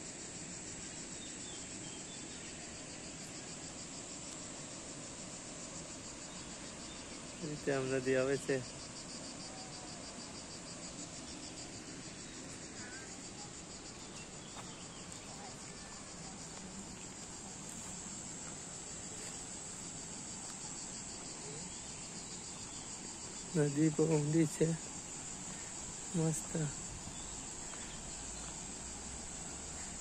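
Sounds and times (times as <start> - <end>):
insects buzzing shrilly: 0.0 - 30.0.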